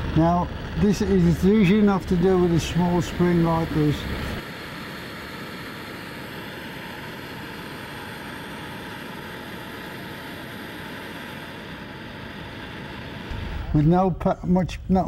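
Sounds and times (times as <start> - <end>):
gas torch flame hissing: 0.0 - 14.2.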